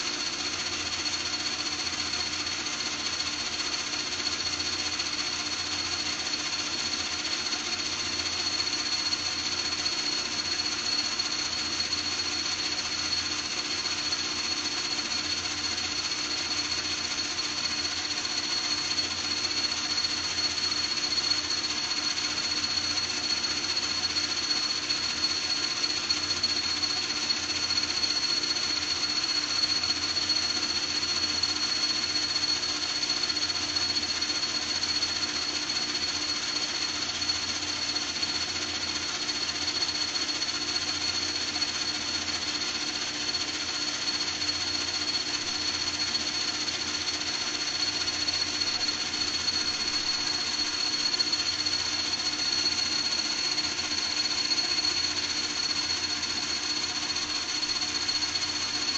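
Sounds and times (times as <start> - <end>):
power tool running with rattle: 0.0 - 58.9.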